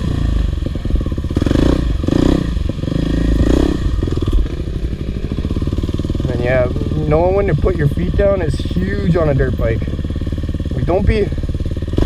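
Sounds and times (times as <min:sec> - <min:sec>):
dirt bike engine throttle blips: 0:00.0 - 0:12.0.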